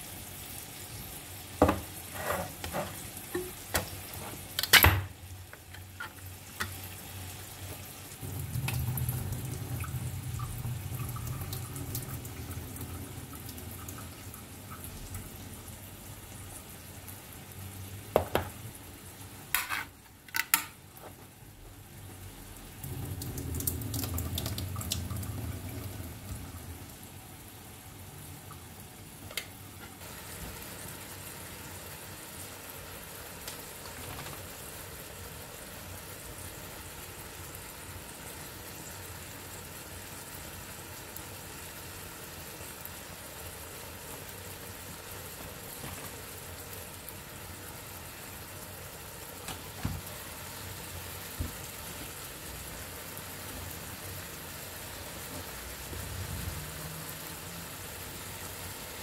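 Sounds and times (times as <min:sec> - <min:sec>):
food sizzling in oil: 0:00.0 - 0:20.2, 0:29.8 - 0:59.0.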